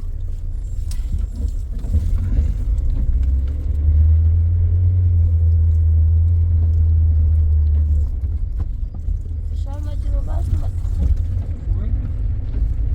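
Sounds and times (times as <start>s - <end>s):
car road rumble: 0.0s - 12.9s.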